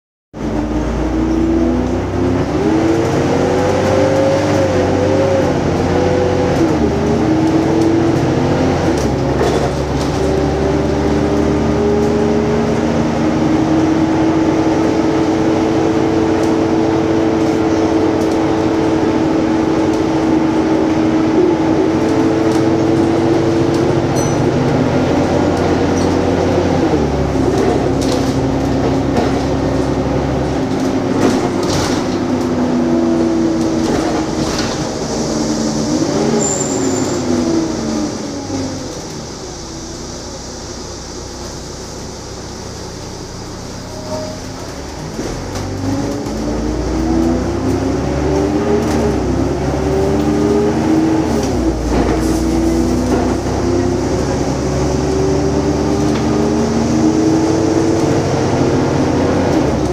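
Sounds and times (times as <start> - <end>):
bus engine rumble and gearbox whine: 0.4 - 59.9.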